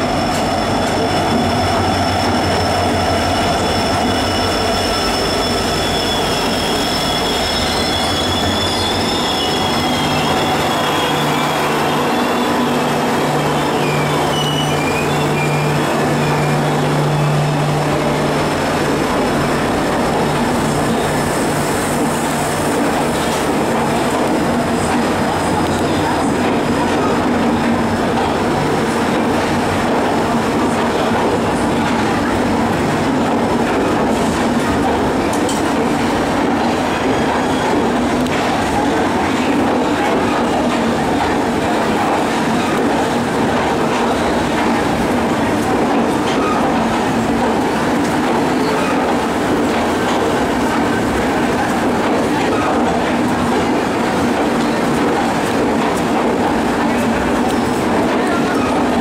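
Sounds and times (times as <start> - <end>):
train wheels running on rail: 0.0 - 59.0.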